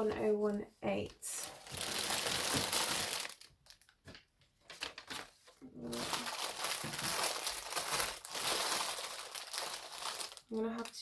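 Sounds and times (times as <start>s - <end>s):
packaging crinkling: 1.4s - 11.0s.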